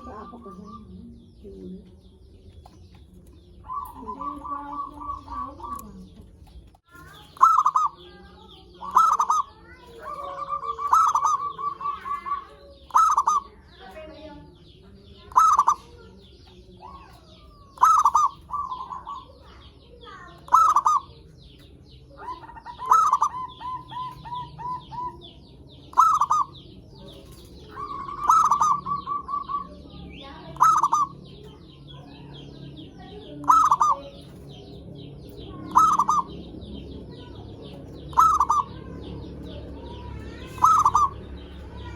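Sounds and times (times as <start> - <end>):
dove cooing: 0.0 - 2.3, 3.4 - 6.4, 7.0 - 41.9
small birds chirping: 0.0 - 41.9.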